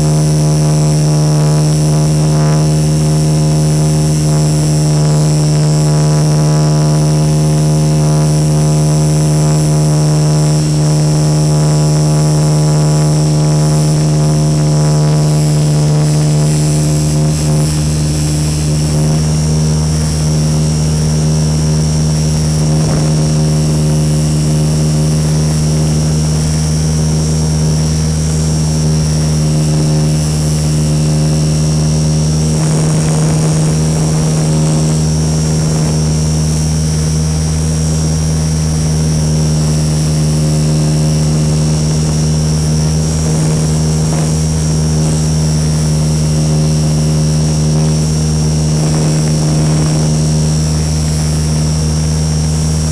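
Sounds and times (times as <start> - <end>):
high propeller whine: 0.0 - 52.9
model plane motor drone: 0.0 - 52.9.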